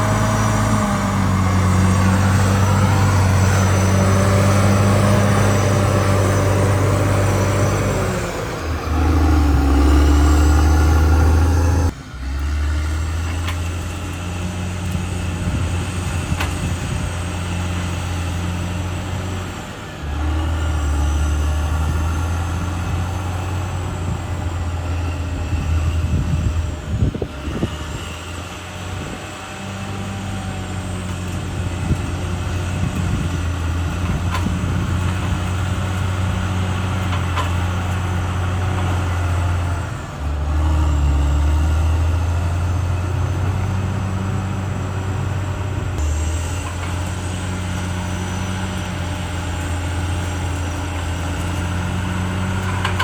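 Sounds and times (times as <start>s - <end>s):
bulldozer diesel engine: 0.0s - 53.0s.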